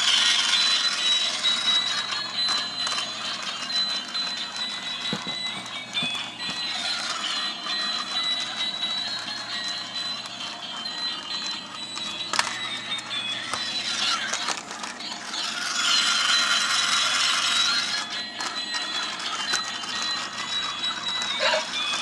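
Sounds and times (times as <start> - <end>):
thin steady high tones: 0.0 - 22.0
toy motors whirring and clicking: 0.0 - 22.0.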